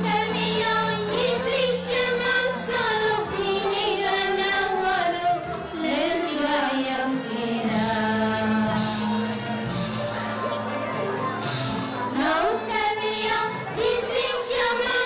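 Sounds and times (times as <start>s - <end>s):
women singing a duet: 0.0s - 9.7s, 12.1s - 15.0s
held accompaniment notes: 0.0s - 15.0s.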